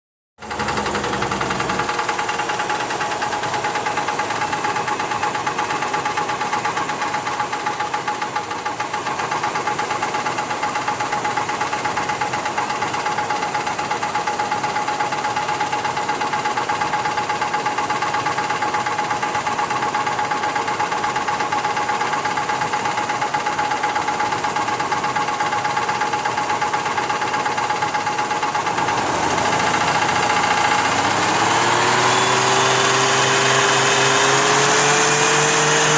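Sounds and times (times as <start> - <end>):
engine knocking: 0.4 - 35.9.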